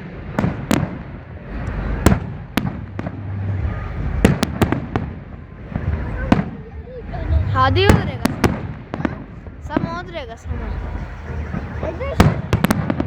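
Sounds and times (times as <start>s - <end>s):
fireworks bangs: 0.0s - 13.0s
low background rumble: 0.0s - 13.0s.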